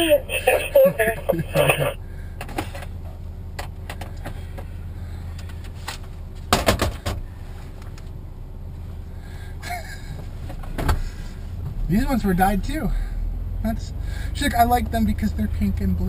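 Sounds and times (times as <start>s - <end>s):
van engine idling: 0.0s - 16.0s.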